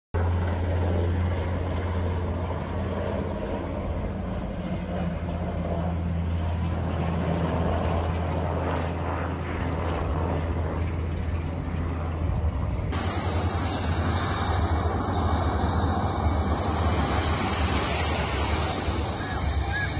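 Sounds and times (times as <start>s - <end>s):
aircraft engine drone: 0.2s - 19.9s.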